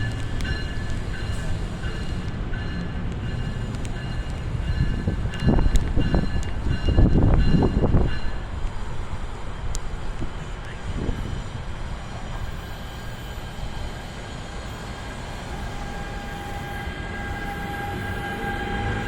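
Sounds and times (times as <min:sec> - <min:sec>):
passenger train rumbling past: 0:00.0 - 0:19.0.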